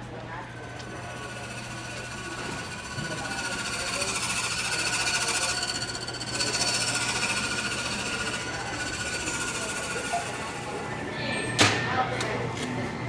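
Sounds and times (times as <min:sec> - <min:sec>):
steady low hum: 0:00.0 - 0:13.0
fast mechanical rattling: 0:00.4 - 0:11.2.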